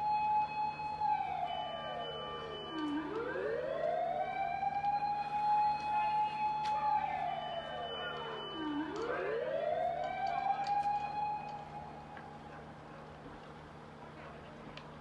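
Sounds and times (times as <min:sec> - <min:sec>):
fire engine sirens wailing: 0:00.0 - 0:15.0.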